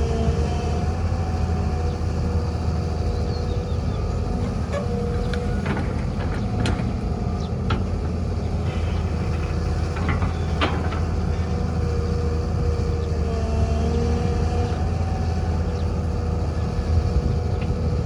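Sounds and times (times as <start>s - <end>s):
diesel machinery rumbling: 0.0s - 18.0s.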